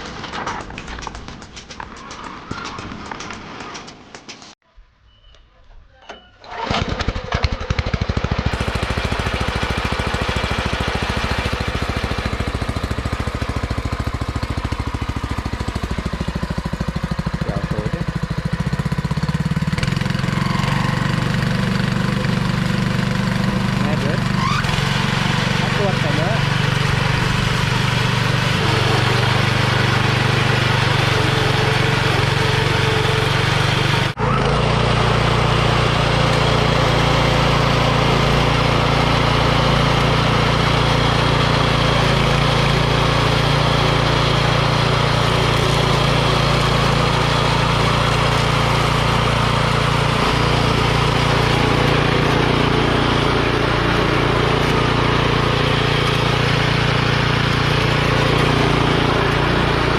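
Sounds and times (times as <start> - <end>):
lawn mower engine running: 6.4 - 59.9.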